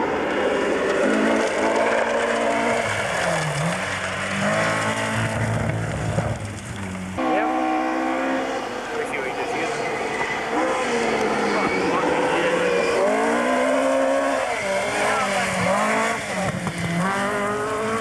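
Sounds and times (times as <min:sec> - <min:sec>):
another car engine: 0:00.0 - 0:18.0
rally car engine at high revs: 0:00.0 - 0:18.0.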